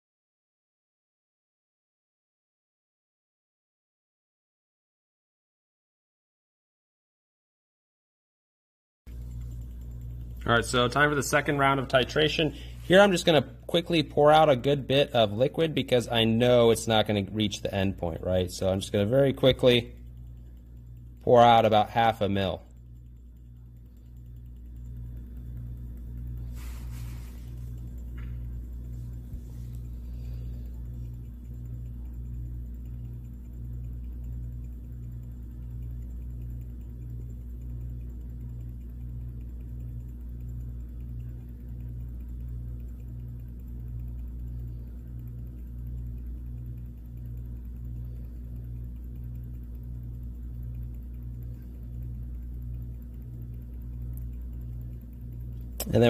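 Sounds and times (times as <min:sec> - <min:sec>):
pulsing machine hum: 0:09.1 - 0:56.0.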